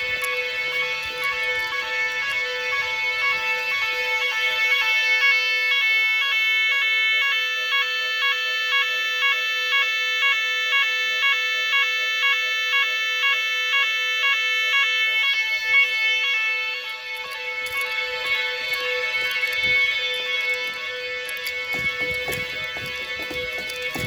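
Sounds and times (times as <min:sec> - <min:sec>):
pulsing electronic alarm tone: 0:00.0 - 0:24.0.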